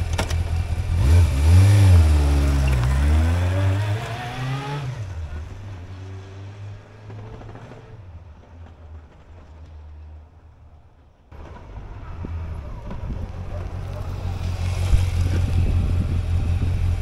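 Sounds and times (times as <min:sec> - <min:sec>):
motorcycle engine accelerating: 0:00.0 - 0:08.0, 0:11.4 - 0:17.0.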